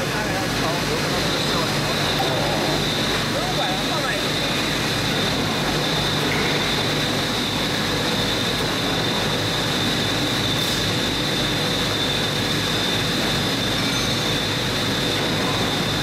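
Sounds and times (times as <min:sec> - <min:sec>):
high-pitched machinery whine: 0:00.0 - 0:16.0.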